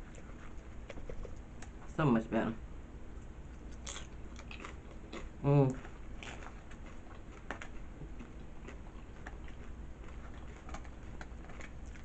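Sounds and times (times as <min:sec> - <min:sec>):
person chewing crunchy food: 0:00.0 - 0:01.9, 0:03.5 - 0:12.0.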